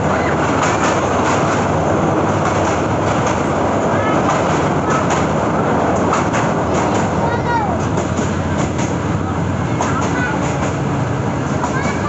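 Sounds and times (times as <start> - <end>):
train wheels rumbling on bridge: 0.0 - 12.0.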